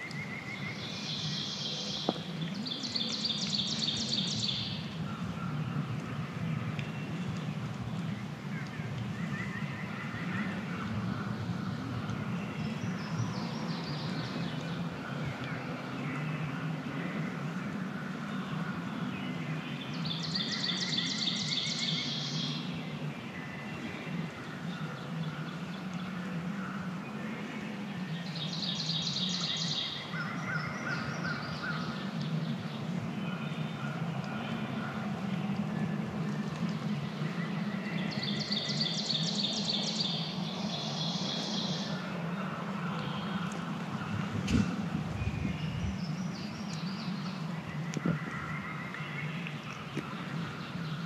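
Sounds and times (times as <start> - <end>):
songbirds singing: 0.0 - 51.0
steady low rumble: 0.0 - 51.0.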